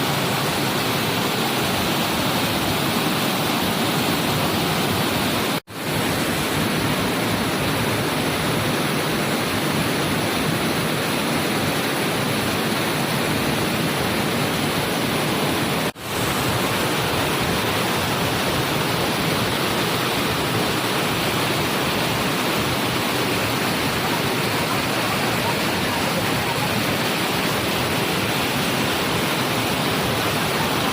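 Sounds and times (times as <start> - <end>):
waterfall roaring: 0.0 - 30.9.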